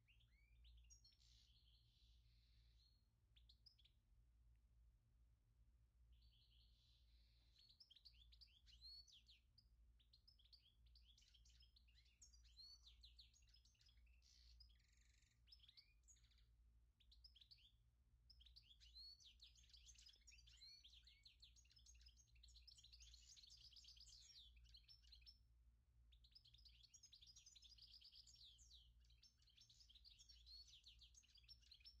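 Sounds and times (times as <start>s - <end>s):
small birds chirping: 0.0s - 4.9s, 5.9s - 32.0s.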